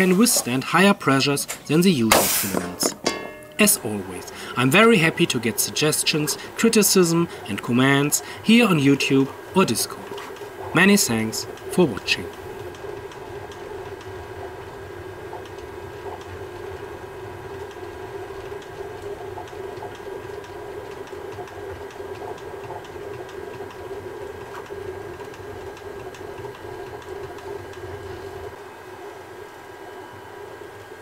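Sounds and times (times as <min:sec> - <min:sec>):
printer motors and fans humming: 0:00.0 - 0:31.0.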